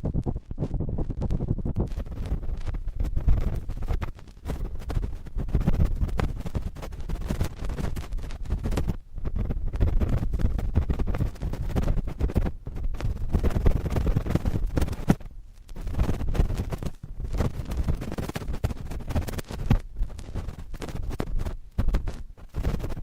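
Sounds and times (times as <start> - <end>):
cotton swab scratching microphone: 0.0 - 23.0.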